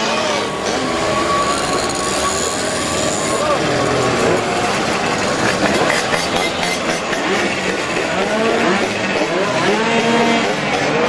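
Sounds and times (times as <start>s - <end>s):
mopeds revving past: 0.0s - 11.0s.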